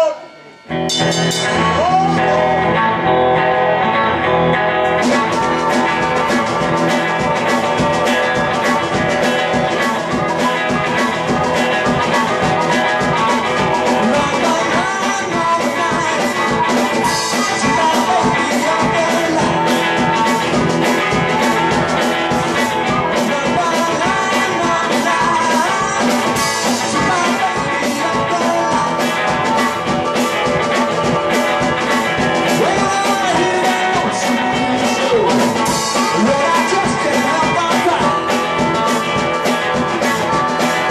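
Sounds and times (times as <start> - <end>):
drums keeping a steady beat: 0.0 - 40.9
electric guitar: 0.0 - 40.9
harmonica wailing: 0.0 - 40.9.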